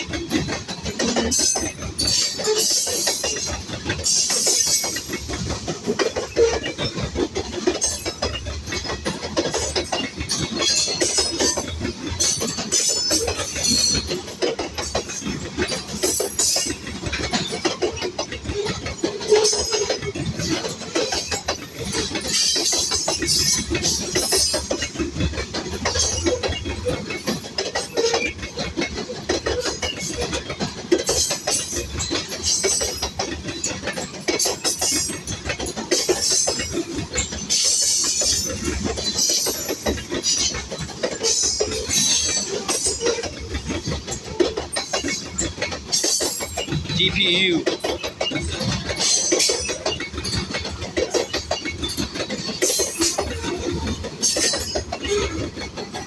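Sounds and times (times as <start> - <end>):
train wheels clacking over rail joints: 0.0 - 56.0.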